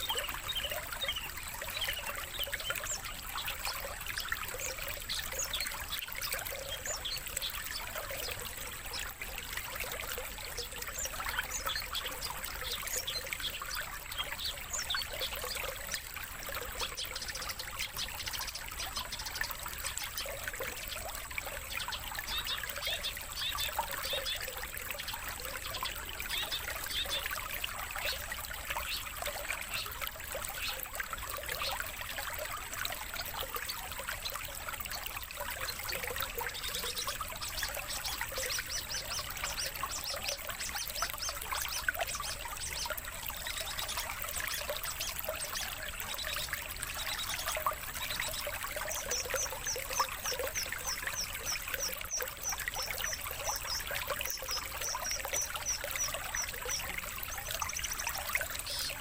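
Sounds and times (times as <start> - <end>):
songbirds chirping and singing: 0.0 - 32.2, 35.4 - 59.0
trickle of running water: 0.0 - 59.0.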